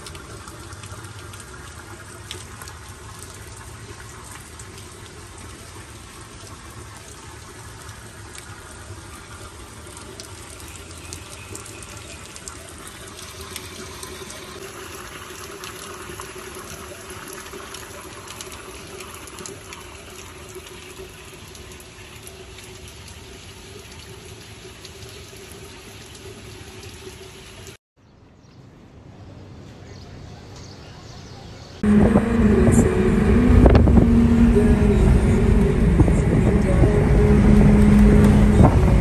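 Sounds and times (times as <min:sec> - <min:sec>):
rain hissing on street: 0:00.0 - 0:27.8, 0:31.8 - 0:39.0.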